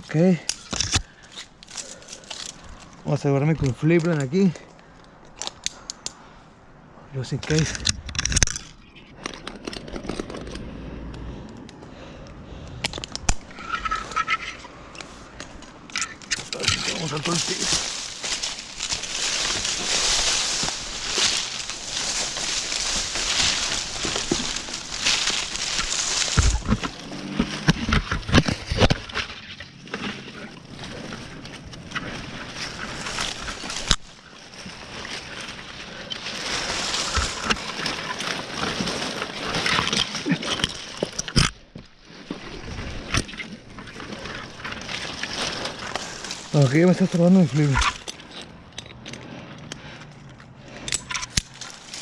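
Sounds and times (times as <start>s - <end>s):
rustling of leafy branches: 0.0s - 52.0s.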